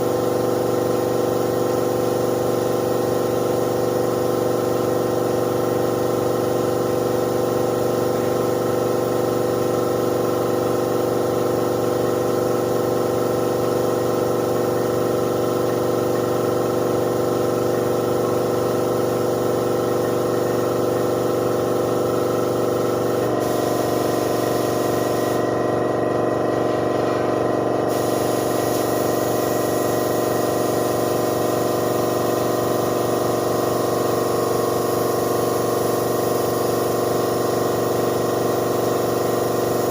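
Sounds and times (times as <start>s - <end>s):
air compressor running: 0.0s - 39.9s
paint spray gun hissing: 0.0s - 39.9s.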